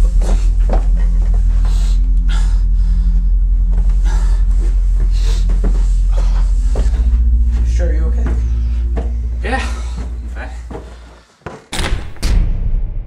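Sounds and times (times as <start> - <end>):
footsteps on staircase: 0.0 - 11.8
steady deep drone: 0.0 - 13.0.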